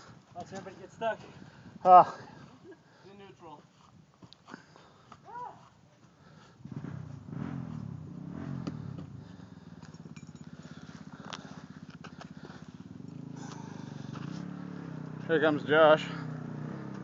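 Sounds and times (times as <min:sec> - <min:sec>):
off-road vehicle engine: 0:00.0 - 0:03.6, 0:04.4 - 0:17.0.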